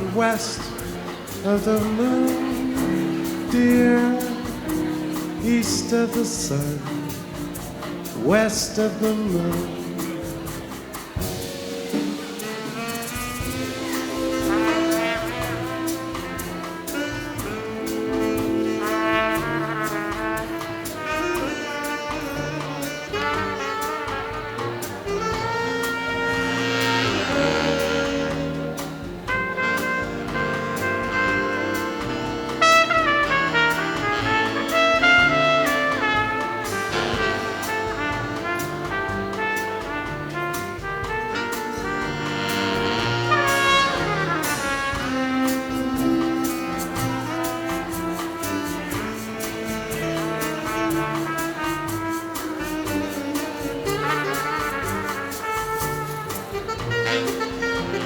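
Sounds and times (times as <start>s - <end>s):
big band bossa nova: 0.0s - 58.0s.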